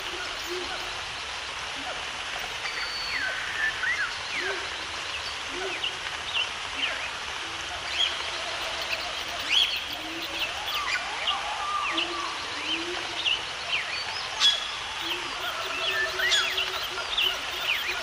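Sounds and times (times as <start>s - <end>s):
birds chirping: 0.0s - 18.0s
steady background hiss: 0.0s - 18.0s.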